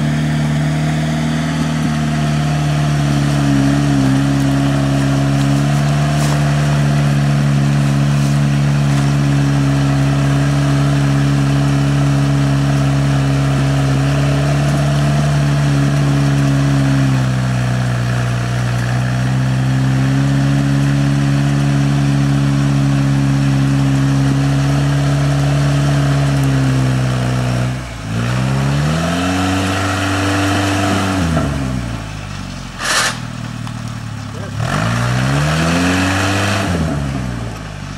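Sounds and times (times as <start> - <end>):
vehicle engine revving: 0.0 - 37.9.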